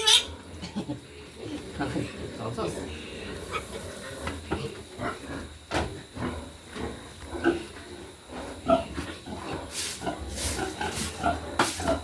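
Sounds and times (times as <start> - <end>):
pigs grunting and squealing: 0.0 - 12.0.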